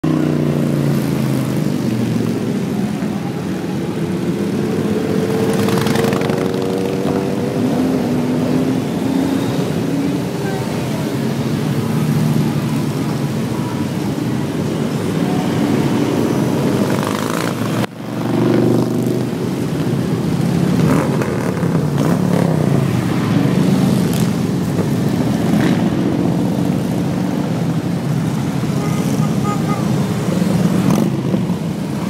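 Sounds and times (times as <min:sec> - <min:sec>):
motorcycles riding past: 0:00.0 - 0:32.0.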